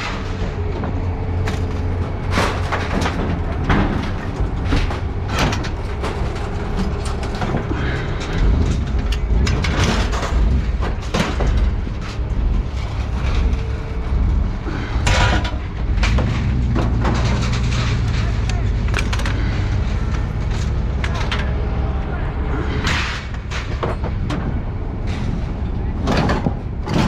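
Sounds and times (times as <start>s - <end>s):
low engine hum: 0.0s - 27.0s
scrap metal clanking: 0.0s - 27.0s.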